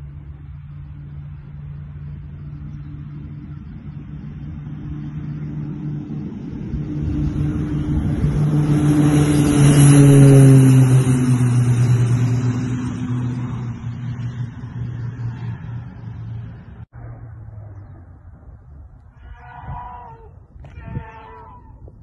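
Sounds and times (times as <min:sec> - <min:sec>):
propeller plane drone: 0:00.0 - 0:22.0.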